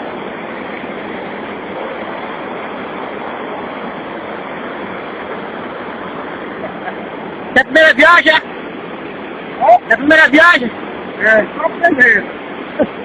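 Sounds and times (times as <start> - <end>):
water rushing over rapids: 0.0 - 13.0.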